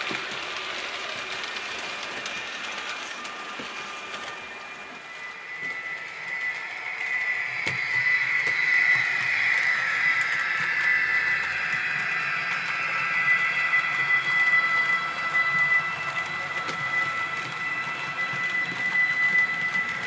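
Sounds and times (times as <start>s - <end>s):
model locomotive motor whine: 0.0s - 20.0s
model train wheels rolling on rails: 0.0s - 20.0s.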